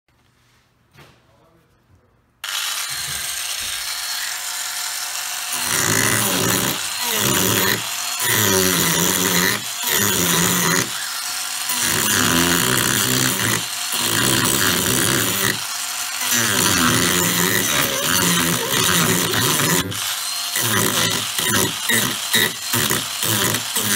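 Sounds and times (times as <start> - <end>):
angle grinder running: 2.4 - 23.9
grinder carving wood: 2.4 - 23.9.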